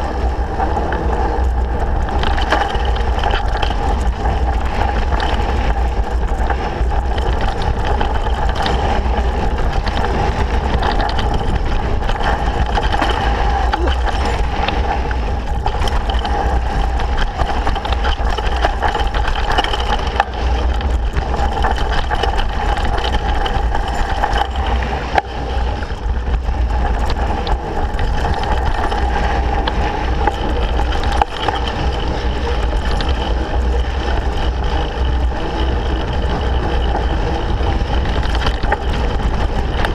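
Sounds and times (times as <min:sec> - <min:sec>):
bike tyres on dirt: 0:00.0 - 0:39.9
wind rush on microphone: 0:00.0 - 0:39.9
bike knocking over bumps: 0:00.7 - 0:39.9.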